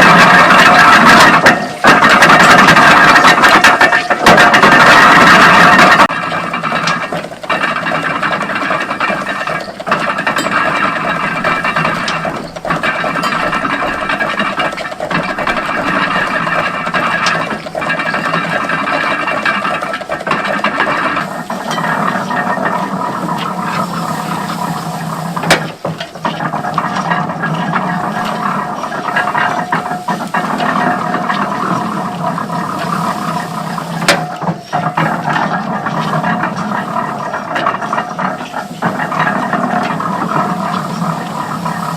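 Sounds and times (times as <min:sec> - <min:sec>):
machine clatter and hum: 0:00.0 - 0:41.9.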